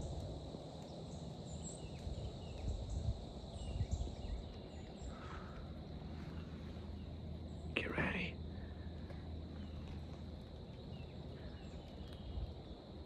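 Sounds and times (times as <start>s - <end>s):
faint high whine: 0.0s - 12.8s
low wind: 0.0s - 13.0s
small birds chirping: 0.0s - 13.0s.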